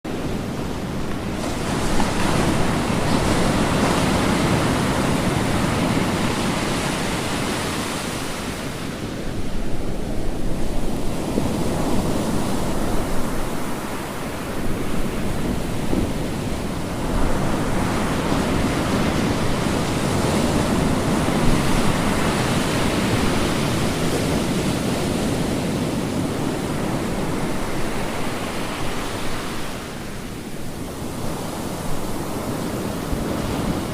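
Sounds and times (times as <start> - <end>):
ocean waves breaking on shore: 0.1 - 33.9.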